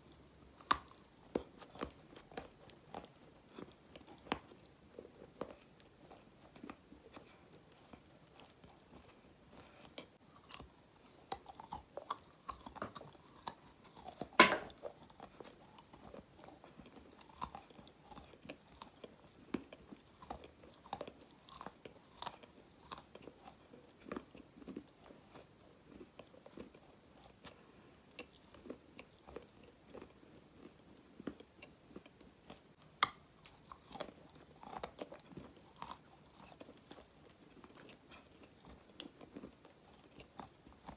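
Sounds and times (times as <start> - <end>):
clay being chewed and crunched: 0.0 - 40.9.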